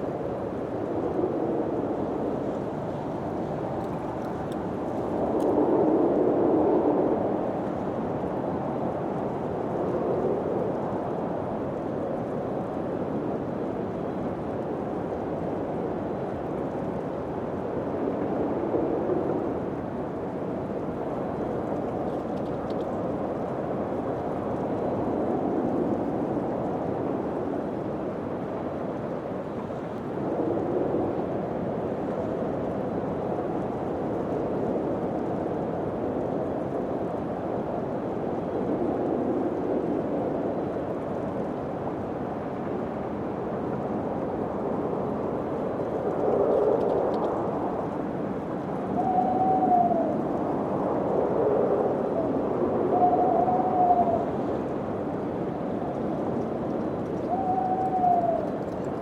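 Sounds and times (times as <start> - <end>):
rushing wind gusts: 0.0 - 59.0.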